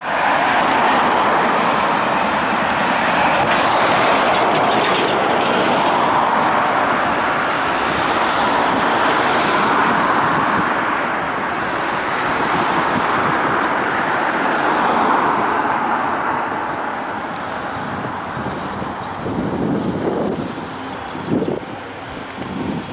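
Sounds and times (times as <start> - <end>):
passing vehicles rushing: 0.0 - 22.9.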